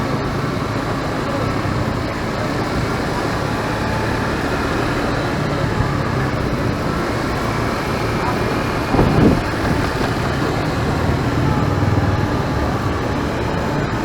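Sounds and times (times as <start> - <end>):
motorcycle engine running: 0.0 - 14.0
road and traffic noise: 0.0 - 14.0.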